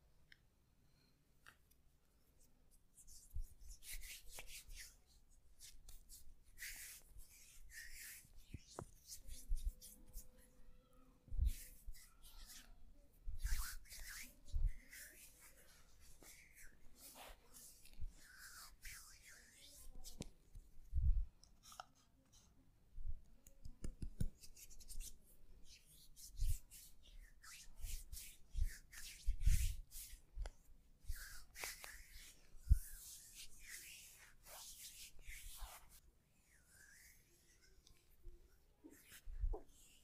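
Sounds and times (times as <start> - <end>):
hands rubbing skin swishing: 2.4 - 10.4, 11.3 - 21.3, 23.7 - 38.0, 38.8 - 40.0.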